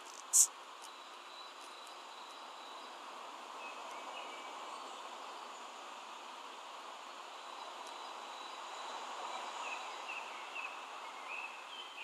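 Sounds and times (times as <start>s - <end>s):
city street background noise: 0.0s - 12.0s.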